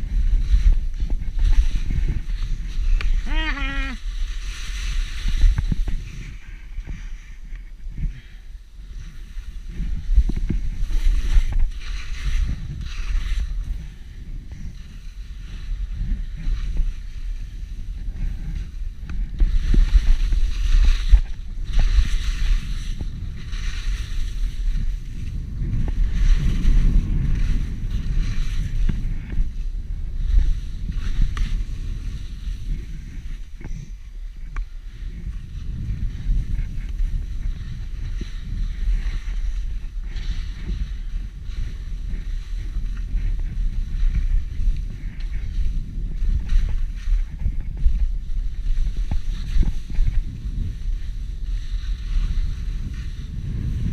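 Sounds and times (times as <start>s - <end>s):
ski edges scraping on snow: 0.0s - 53.9s
wind rumbling on microphone: 0.0s - 53.9s.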